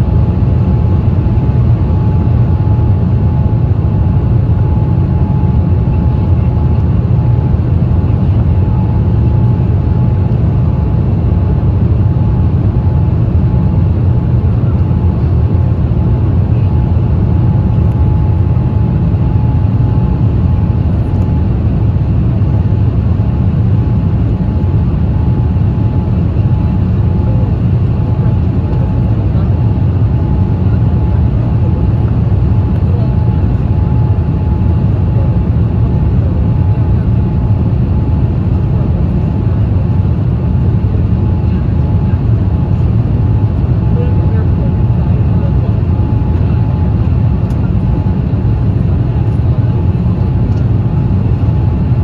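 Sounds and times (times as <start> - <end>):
deep jet engine rumble: 0.0 - 52.0.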